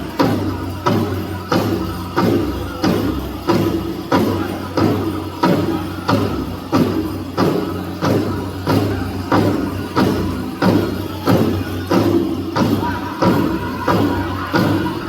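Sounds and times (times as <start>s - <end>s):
drum group singing: 0.0s - 15.0s
large drum beating: 0.1s - 15.0s.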